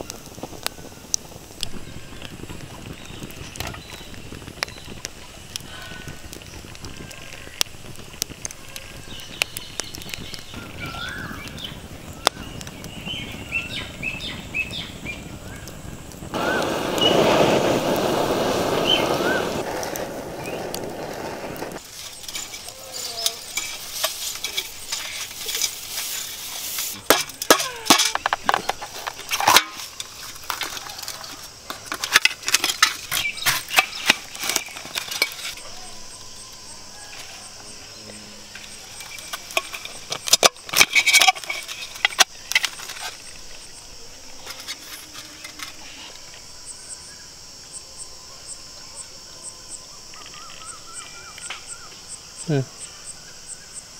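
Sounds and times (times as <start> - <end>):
fire rushing: 0.0 - 53.9
wood fire crackling: 0.0 - 53.9.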